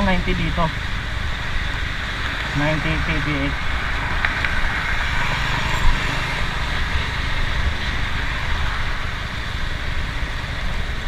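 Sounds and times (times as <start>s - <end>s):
motorcycle running at speed: 0.0s - 11.0s
road rumble: 0.0s - 11.0s
wind rushing over microphone: 0.0s - 11.0s.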